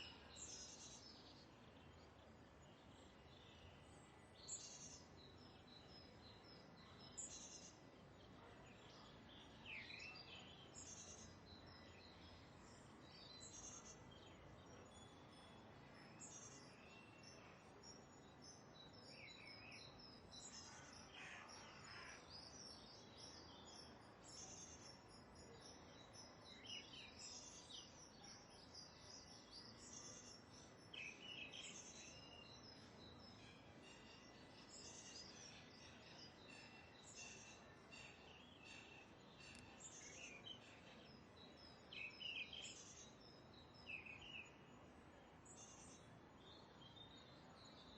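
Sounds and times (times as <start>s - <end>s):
faint birdsong: 0.0s - 47.9s.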